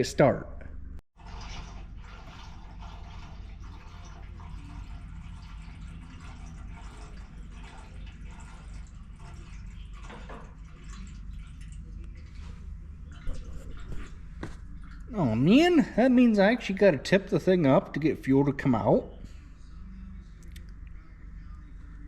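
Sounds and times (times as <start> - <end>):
steady low hum: 0.0 - 22.0
fuel trickling and dripping: 1.2 - 20.8.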